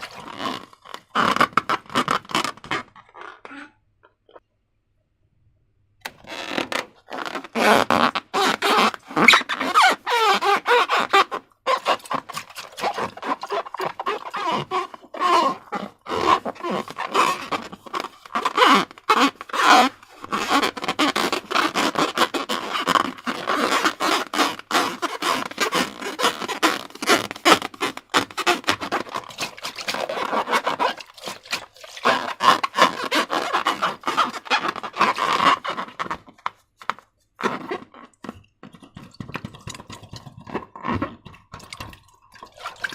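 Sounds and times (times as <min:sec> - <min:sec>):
slime squelching: 0:00.0 - 0:03.7, 0:06.1 - 0:42.9
squeaky glides of slime: 0:00.0 - 0:04.5, 0:06.1 - 0:42.9.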